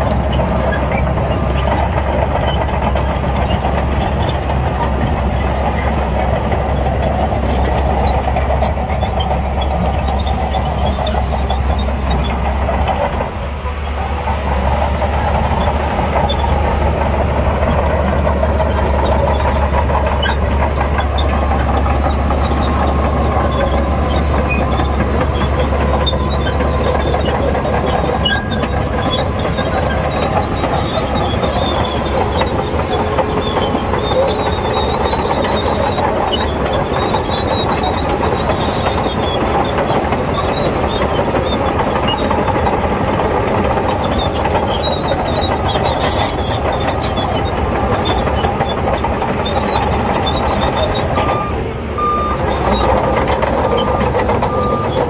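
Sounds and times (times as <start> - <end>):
bulldozer diesel engine under load: 0.0 - 55.0
crawler tracks clanking and squealing: 0.0 - 55.0.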